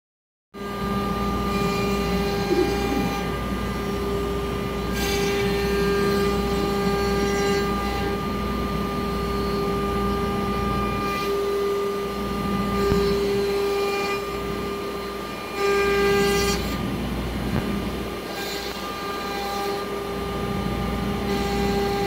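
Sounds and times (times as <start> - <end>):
router machine hum and whine: 0.6 - 22.0.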